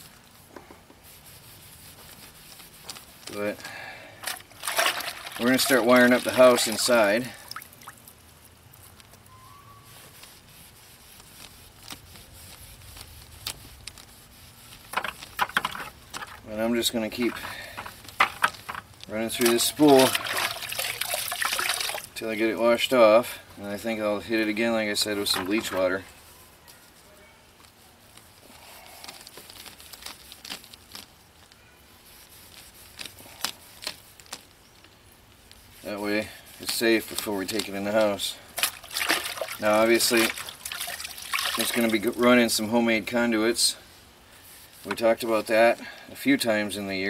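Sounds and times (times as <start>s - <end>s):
wire rubbing through wet rag: 0.0s - 45.8s.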